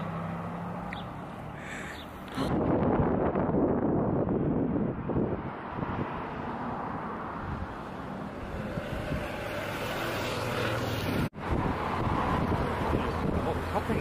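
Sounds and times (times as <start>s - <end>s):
vehicle passing with rushing rumble: 0.0s - 14.0s.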